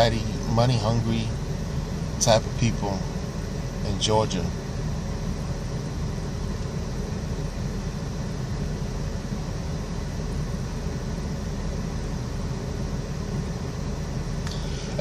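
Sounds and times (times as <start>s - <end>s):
steady background rumble and hiss: 0.0s - 15.0s.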